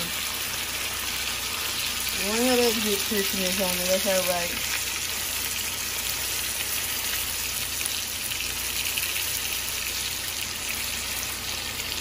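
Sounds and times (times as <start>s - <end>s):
steak sizzling in a skillet: 0.0s - 12.0s.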